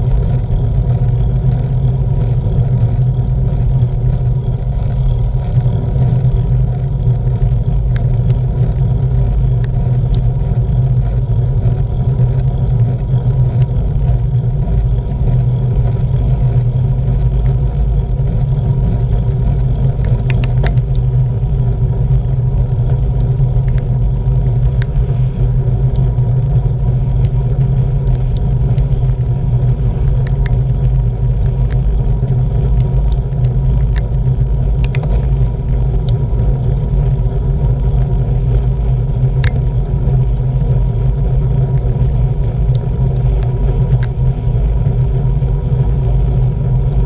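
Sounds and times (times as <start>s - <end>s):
bicycle rolling on road: 0.0s - 47.0s
small clicks and rattles: 0.0s - 47.0s.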